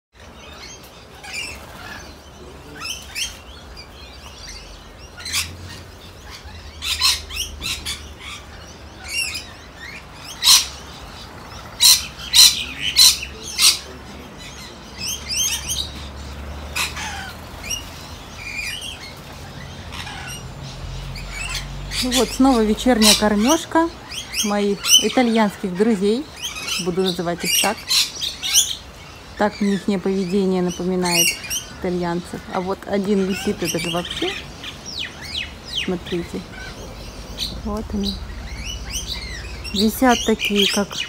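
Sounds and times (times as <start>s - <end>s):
lorikeets chattering and screeching: 0.2s - 41.0s.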